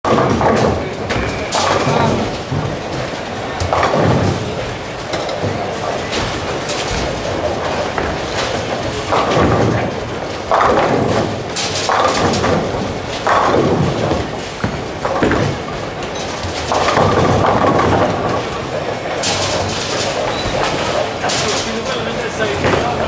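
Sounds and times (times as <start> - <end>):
bowling balls rolling: 0.0 - 23.0
bowling pins crashing: 0.0 - 23.0.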